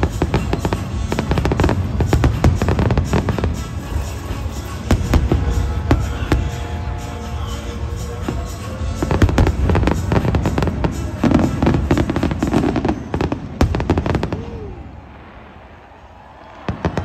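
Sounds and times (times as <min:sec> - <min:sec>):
music: 0:00.0 - 0:14.9
fireworks bursting: 0:00.0 - 0:17.0.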